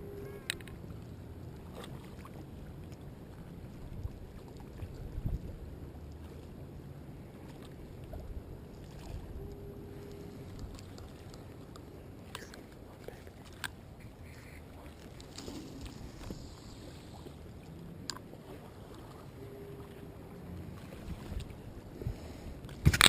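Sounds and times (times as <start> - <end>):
ocean water rumble: 0.0 - 23.0
steady hum: 0.0 - 23.0
wind: 0.0 - 23.0.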